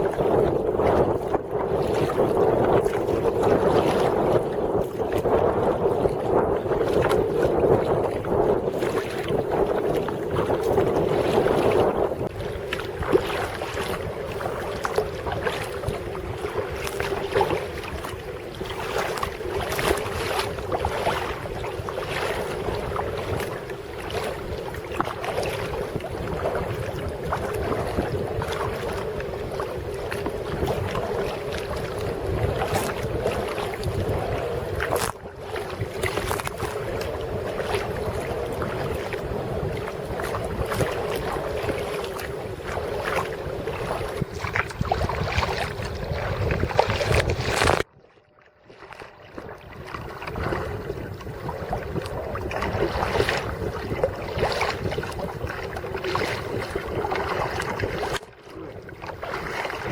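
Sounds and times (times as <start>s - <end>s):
wind buffeting microphone: 0.0s - 48.0s, 48.9s - 59.9s
paddle strokes splashing: 0.0s - 59.9s.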